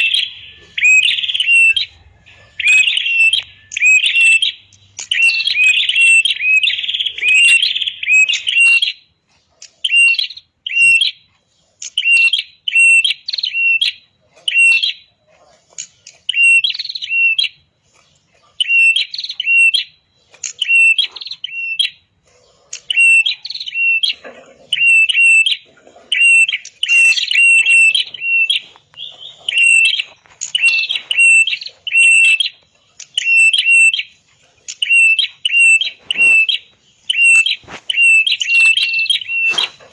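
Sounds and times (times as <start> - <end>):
bird sharp chirping: 0.0 - 15.1, 15.8 - 39.9.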